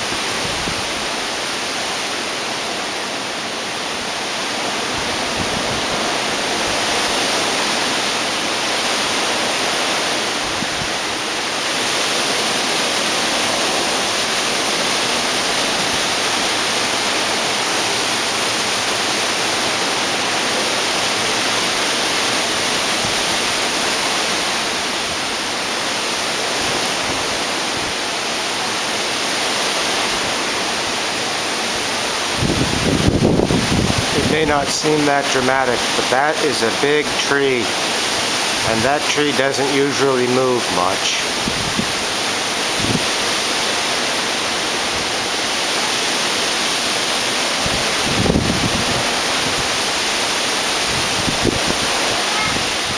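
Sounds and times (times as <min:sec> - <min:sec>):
wind rushing through trees: 0:00.0 - 0:39.9, 0:40.7 - 0:52.9.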